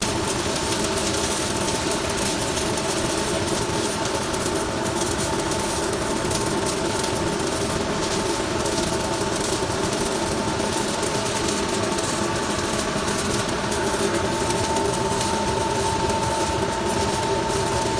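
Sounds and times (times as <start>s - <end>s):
welding arc crackling: 0.0s - 17.9s
welding equipment hum: 0.0s - 17.9s.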